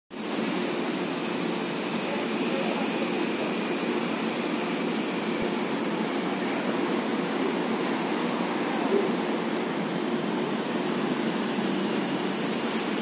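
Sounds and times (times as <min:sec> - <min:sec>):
even rumble and hiss: 0:00.2 - 0:13.0.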